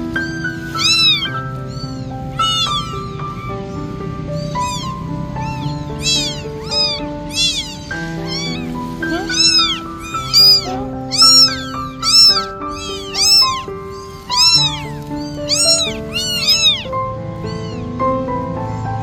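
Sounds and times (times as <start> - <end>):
background music: 0.0 - 19.0
kittens meowing: 0.0 - 19.0.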